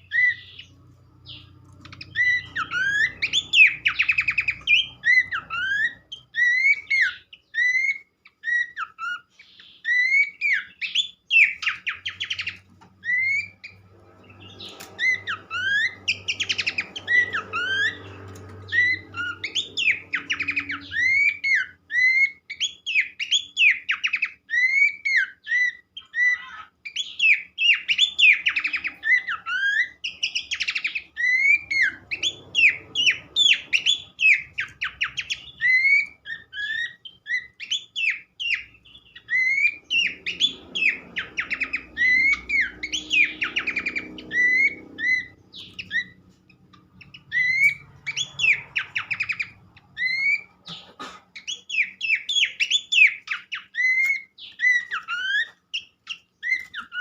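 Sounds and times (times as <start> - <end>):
bird song whistled notes: 0.0 - 57.0.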